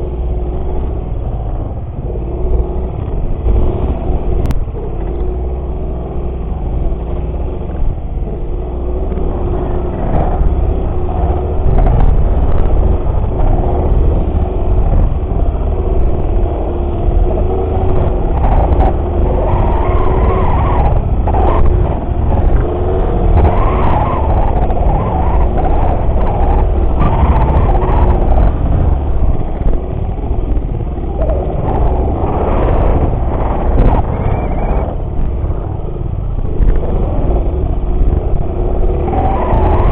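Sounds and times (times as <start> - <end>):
small motorcycle engine running: 0.0 - 39.9
wind rumble on microphone: 0.0 - 39.9.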